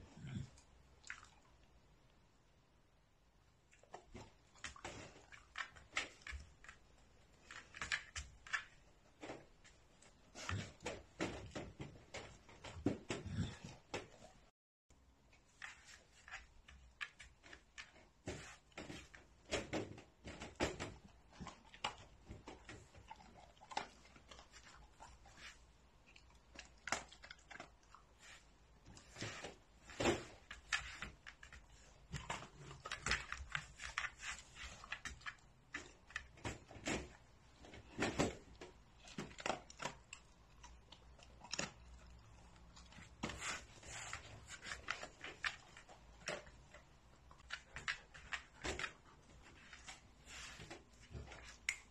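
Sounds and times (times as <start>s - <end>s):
dog eating with clicks and knocks: 3.7s - 14.4s, 15.6s - 51.9s.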